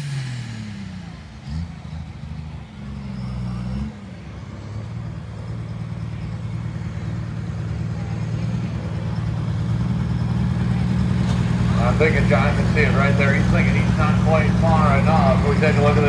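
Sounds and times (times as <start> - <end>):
diesel truck engine revving and droning: 0.0 - 16.0.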